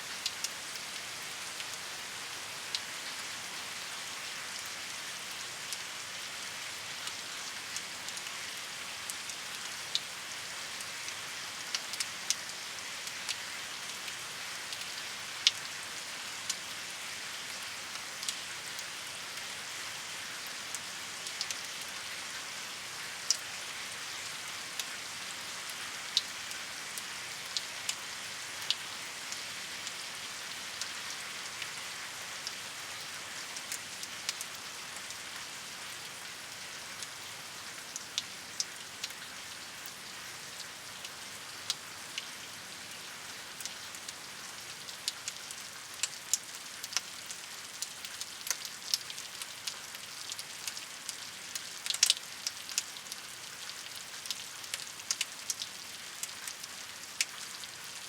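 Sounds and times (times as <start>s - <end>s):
steady rain hiss: 0.0s - 58.0s
close raindrops striking: 0.1s - 58.0s.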